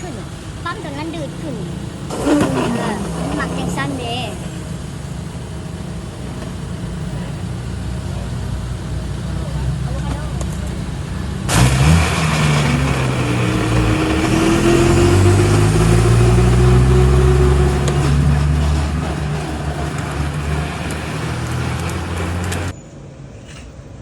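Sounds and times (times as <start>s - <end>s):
vehicle engine running: 0.0s - 22.8s.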